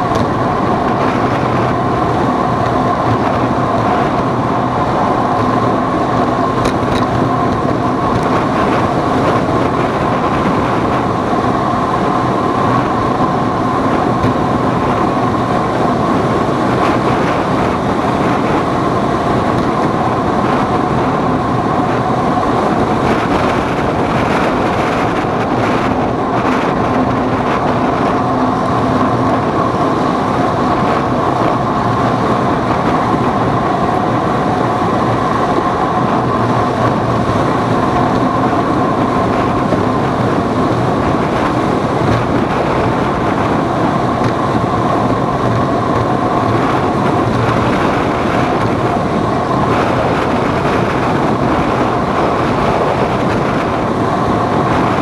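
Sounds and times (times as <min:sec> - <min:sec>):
constant vehicle whine: 0:00.0 - 0:55.0
vehicle rumble: 0:00.0 - 0:55.0.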